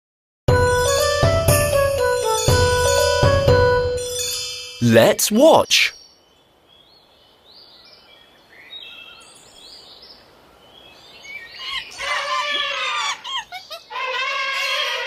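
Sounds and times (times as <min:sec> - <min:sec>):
birds chirping: 0:00.5 - 0:15.0.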